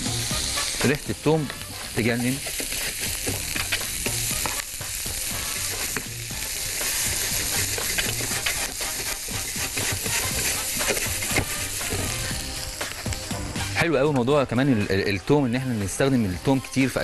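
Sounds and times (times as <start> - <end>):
meat and vegetables sizzling in pan: 0.0 - 17.0.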